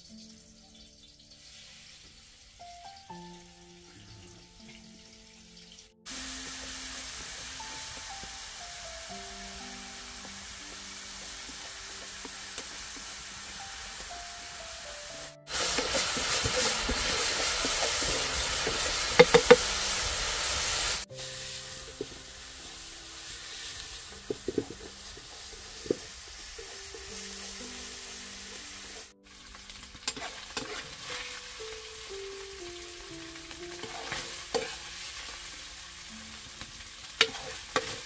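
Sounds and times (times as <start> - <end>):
meat sizzling in a skillet: 0.0 - 3.4, 4.6 - 38.0
soft background music: 0.0 - 38.0.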